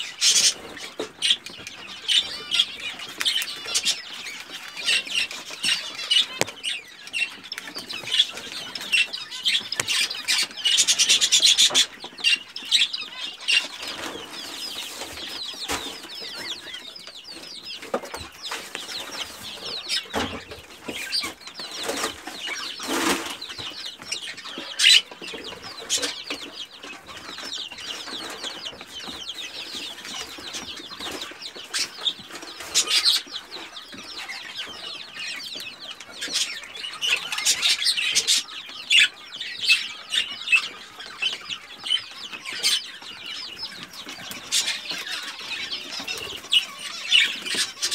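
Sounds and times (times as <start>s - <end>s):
chicks peeping: 0.0s - 47.9s
chicks scratching and pecking: 0.0s - 47.9s.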